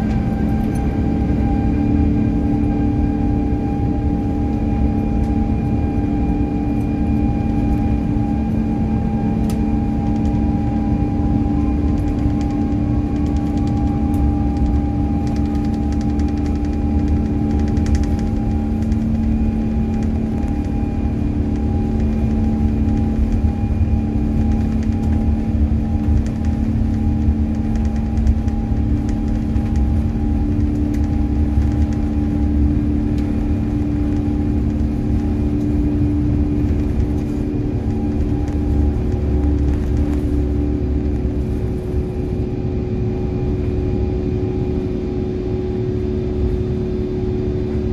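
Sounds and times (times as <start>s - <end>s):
jet engine rumble: 0.0s - 47.9s
steady hums: 0.0s - 47.9s.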